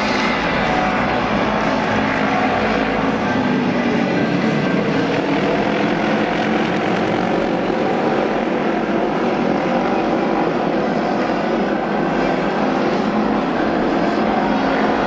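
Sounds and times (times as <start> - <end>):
racing motorcycle engines droning: 0.0 - 15.0.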